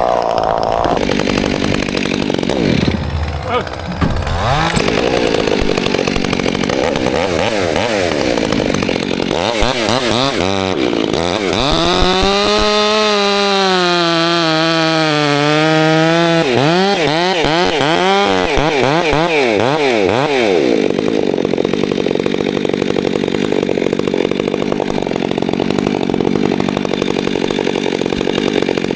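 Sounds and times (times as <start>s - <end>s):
chainsaw revving: 0.0s - 28.9s.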